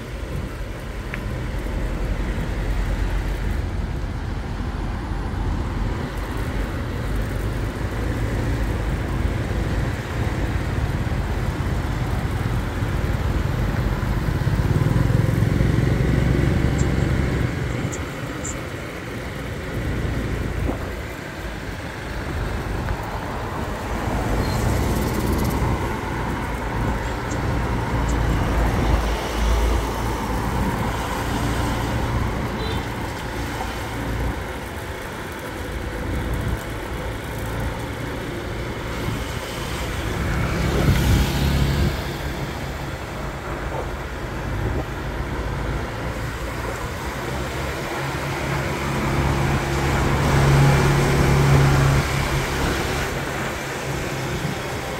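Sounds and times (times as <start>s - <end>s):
vehicle road rumble: 0.0s - 54.9s.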